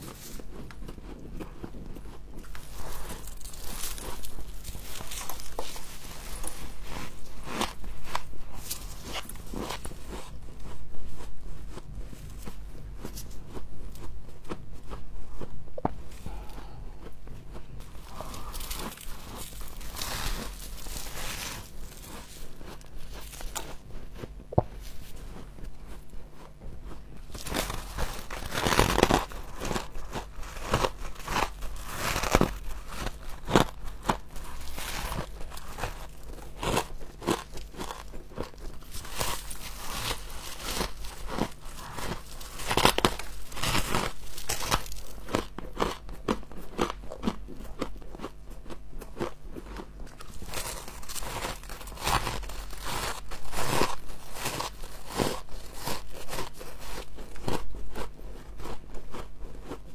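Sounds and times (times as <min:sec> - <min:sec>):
person crunching frost: 0:00.0 - 0:59.9.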